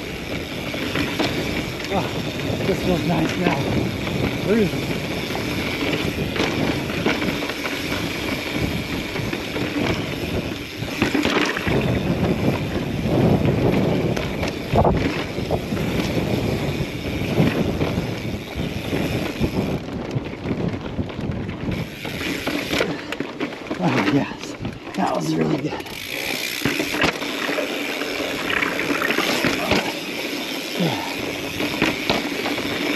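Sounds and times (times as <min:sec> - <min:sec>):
wind buffeting microphone: 0:00.0 - 0:27.0
bike tyre noise and rattle: 0:00.0 - 0:32.9
bike knocking over bumps: 0:00.5 - 0:24.9, 0:25.9 - 0:30.3, 0:30.9 - 0:32.9.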